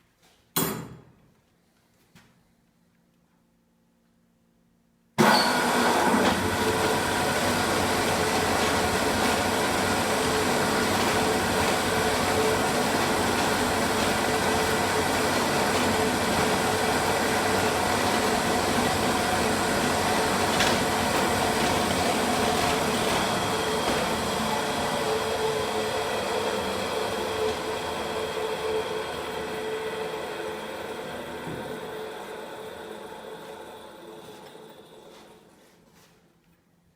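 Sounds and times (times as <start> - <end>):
saw sharpening machine humming: 5.2 - 35.3.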